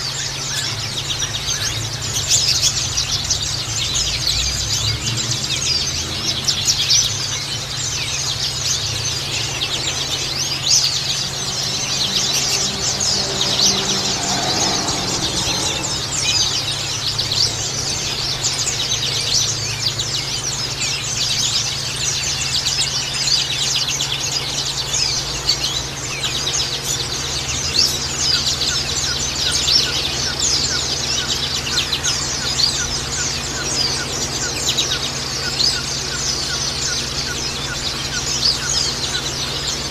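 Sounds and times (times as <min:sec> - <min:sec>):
birds twittering chorus: 0:00.0 - 0:39.9
steady low hum: 0:00.0 - 0:39.9.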